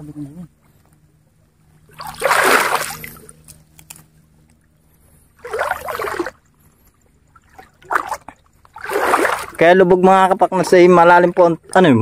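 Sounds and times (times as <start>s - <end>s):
water splashing and sloshing: 1.4s - 11.9s.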